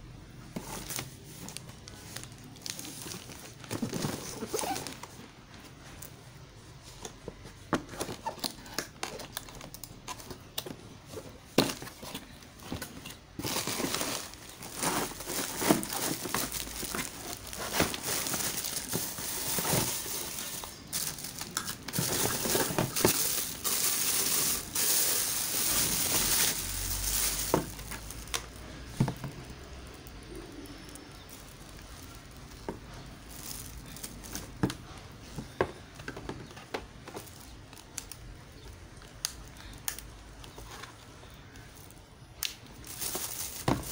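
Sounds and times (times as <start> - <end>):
plastic packaging crinkling: 0.6 - 5.3, 7.9 - 34.7, 39.0 - 43.9.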